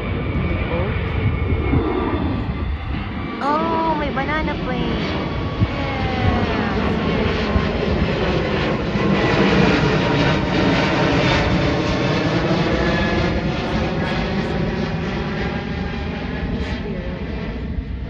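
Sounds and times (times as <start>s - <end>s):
jet engines passing overhead: 0.0s - 18.0s.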